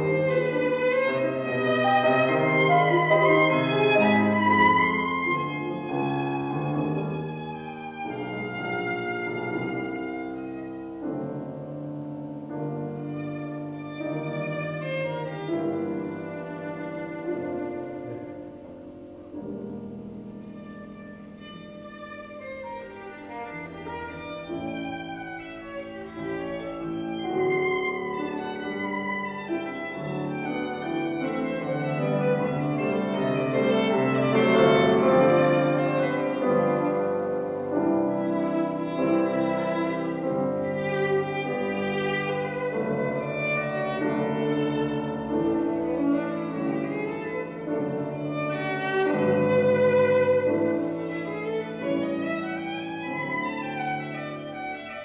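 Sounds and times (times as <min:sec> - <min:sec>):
violin and piano duo: 0:00.0 - 0:55.0.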